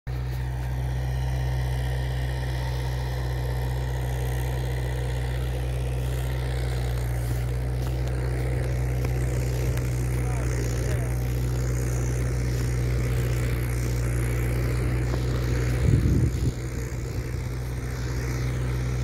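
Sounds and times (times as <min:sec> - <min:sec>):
diesel engine running: 0:00.1 - 0:19.0.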